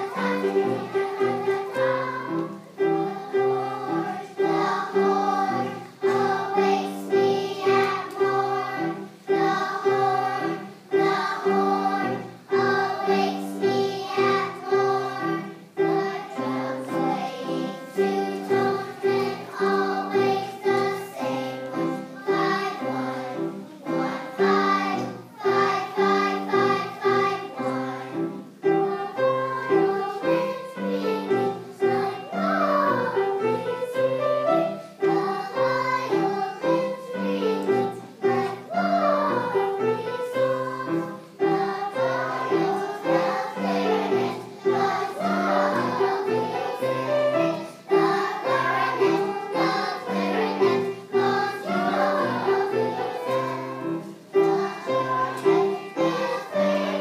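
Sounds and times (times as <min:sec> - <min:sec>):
children's choir singing: 0:00.0 - 0:57.0
piano accompaniment: 0:00.0 - 0:57.0.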